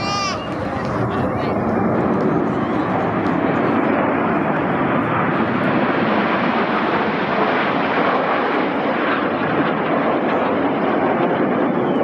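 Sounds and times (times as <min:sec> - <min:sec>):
jets roaring past: 0:00.0 - 0:12.0.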